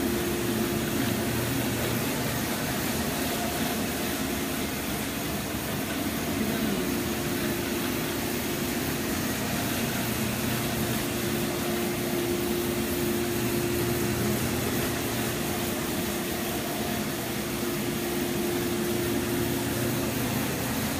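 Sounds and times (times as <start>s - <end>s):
carpet cleaning machine motor hum: 0.0s - 20.9s.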